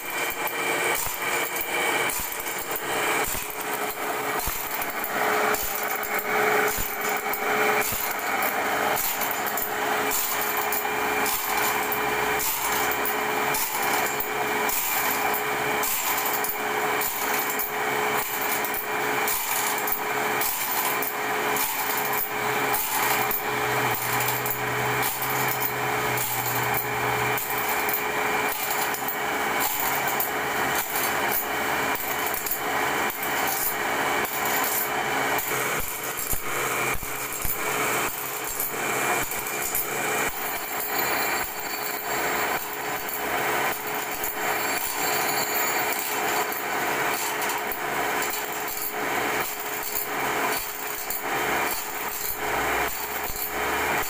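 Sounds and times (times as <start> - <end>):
grinding wheel strokes: 0.0 - 54.0
machine motor running: 0.1 - 47.2.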